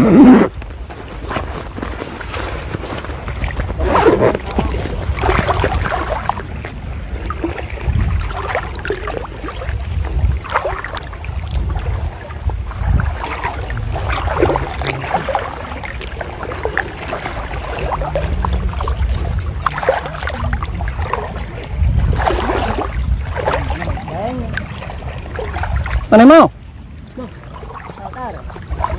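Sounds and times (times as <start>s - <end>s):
water splashing and sloshing: 0.0s - 28.9s
wind rumble on microphone: 0.0s - 28.9s.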